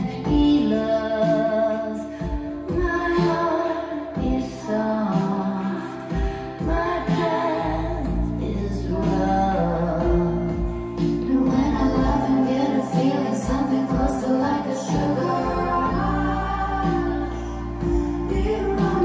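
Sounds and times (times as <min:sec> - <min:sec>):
woman singing over deep bass: 0:00.0 - 0:19.0.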